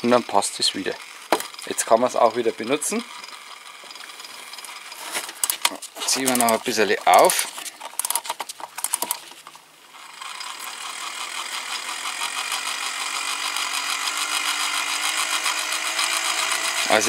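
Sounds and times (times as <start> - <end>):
ratchet clicks winding: 0.0 - 9.2, 10.0 - 17.0
clockwork fan rattling: 0.0 - 17.0.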